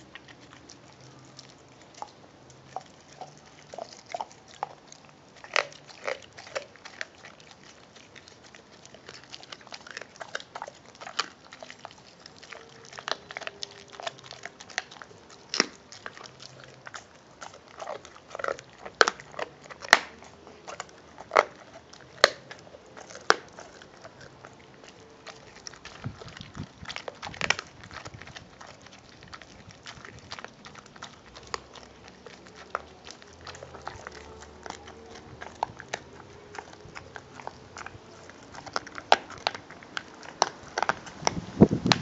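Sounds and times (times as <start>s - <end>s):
dog chewing a bone: 0.0s - 42.0s.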